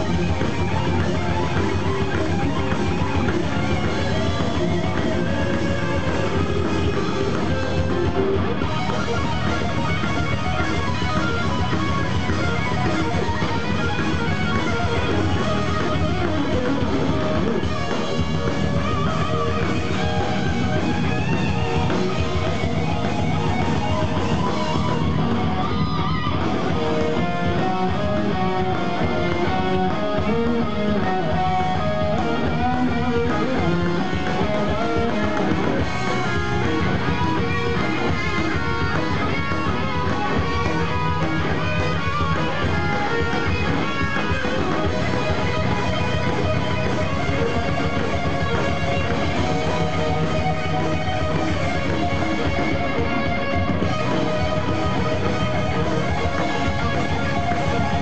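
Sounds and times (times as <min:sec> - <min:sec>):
bass guitar: 0:00.0 - 0:58.0
drums: 0:00.0 - 0:58.0
electric guitars: 0:00.0 - 0:58.0.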